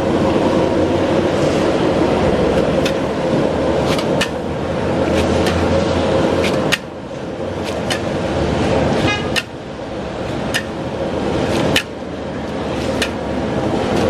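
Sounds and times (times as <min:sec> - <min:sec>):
gas burner roaring: 0:00.0 - 0:14.0.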